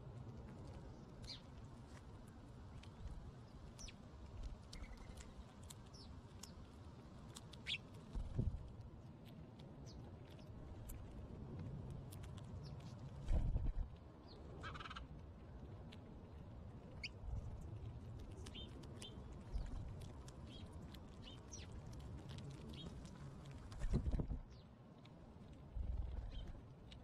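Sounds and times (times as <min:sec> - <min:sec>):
low outdoor hum: 0:00.0 - 0:27.0.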